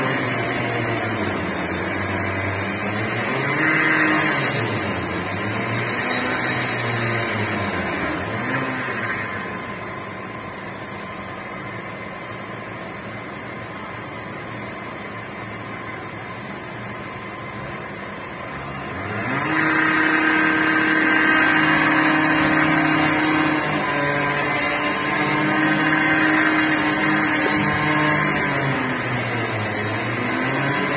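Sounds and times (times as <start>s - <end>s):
large vehicle engine revving: 0.0s - 11.6s, 17.2s - 30.9s.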